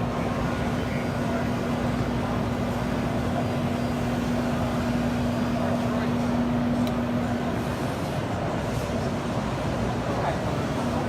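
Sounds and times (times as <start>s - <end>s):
din of busy exhibition hall: 0.0s - 11.0s.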